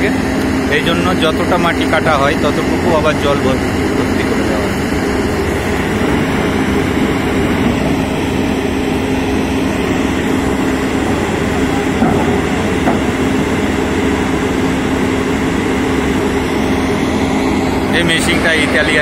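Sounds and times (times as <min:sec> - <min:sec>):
machine engine hum: 0:00.0 - 0:19.0.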